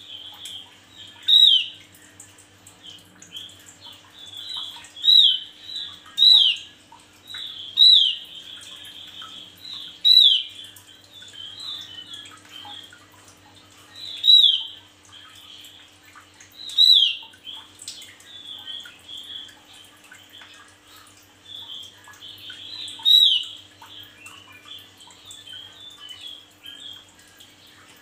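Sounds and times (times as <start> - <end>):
soft high bird twittering: 0.2 - 1.9, 2.9 - 13.0, 13.9 - 15.6, 16.6 - 27.0.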